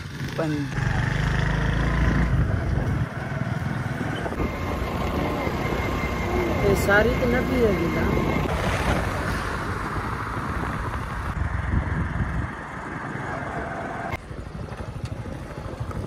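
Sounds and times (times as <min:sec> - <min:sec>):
motorcycle engine and road rumble: 0:00.0 - 0:16.0
wind buffeting microphone: 0:00.0 - 0:16.0.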